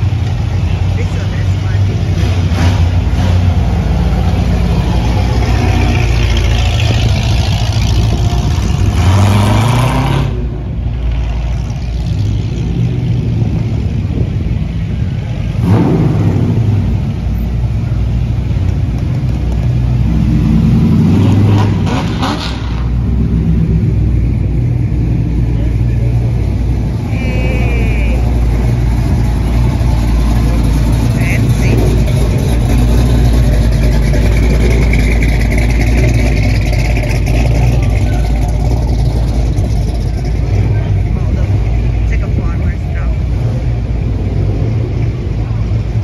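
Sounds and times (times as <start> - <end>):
car engine accelerating: 0.0 - 46.0
cars driving past: 0.0 - 46.0.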